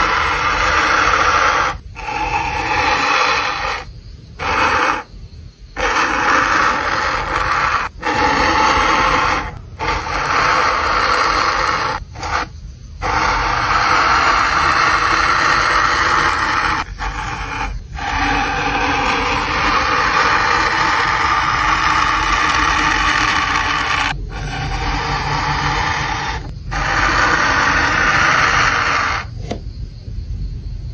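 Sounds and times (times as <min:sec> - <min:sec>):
pen tool scraping foam: 0:00.0 - 0:05.1, 0:05.8 - 0:29.6.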